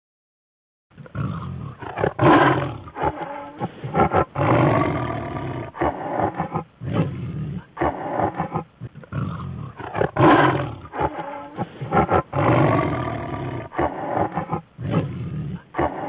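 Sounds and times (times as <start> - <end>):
big cat roaring and grunting: 1.0 - 16.0.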